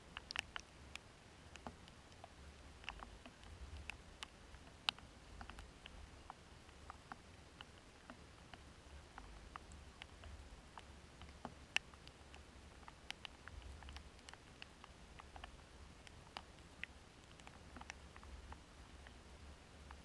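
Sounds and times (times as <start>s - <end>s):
faint low rumble: 0.0s - 20.0s
raindrops ticking: 0.0s - 20.0s.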